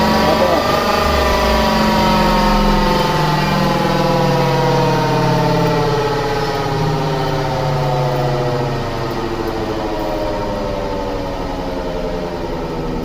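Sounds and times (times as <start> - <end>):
wheel bearings droning: 0.0 - 13.0.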